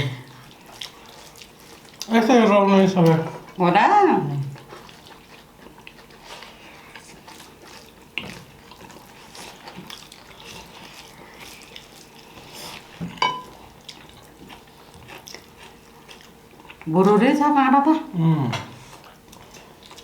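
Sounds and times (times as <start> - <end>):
wet eating and chewing: 0.0 - 20.0.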